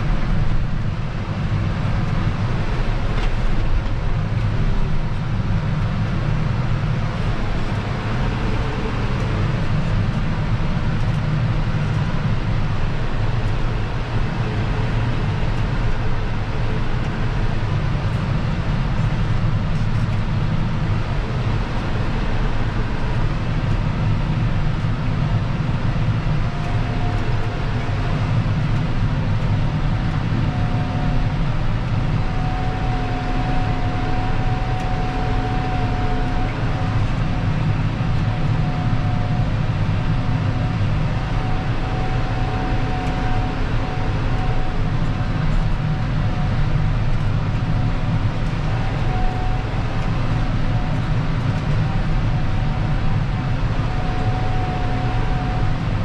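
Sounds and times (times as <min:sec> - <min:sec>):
faint steady whine: 0:00.0 - 0:56.0
tractor diesel engine drone: 0:00.0 - 0:56.0.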